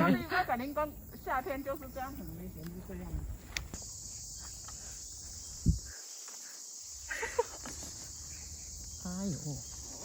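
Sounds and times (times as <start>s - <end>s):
insect chorus drone: 0.0s - 10.0s.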